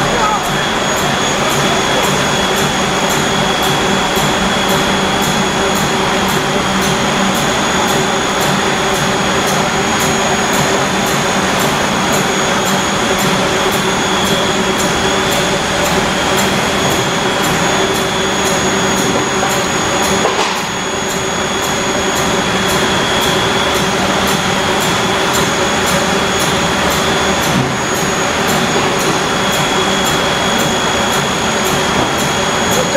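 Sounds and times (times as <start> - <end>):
machine noise with high whine: 0.0 - 32.9.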